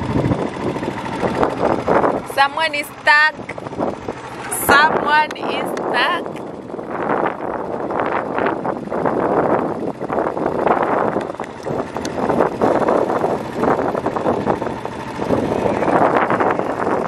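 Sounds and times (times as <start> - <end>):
quad bike engine running: 0.0 - 17.0
wind buffeting microphone: 0.0 - 17.0.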